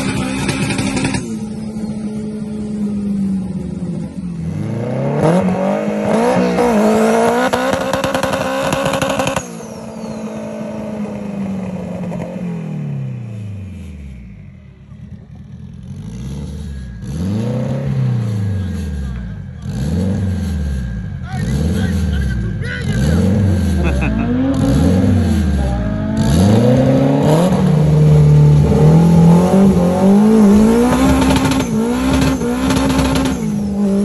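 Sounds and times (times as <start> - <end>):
car engine revving from roadside: 0.0 - 34.0
car engine accelerating inside cabin: 3.4 - 14.4, 15.2 - 34.0.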